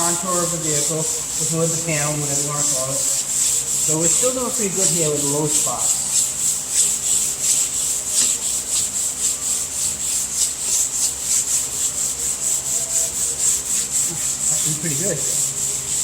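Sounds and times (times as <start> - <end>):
sandpaper strokes on primer: 0.0 - 16.0.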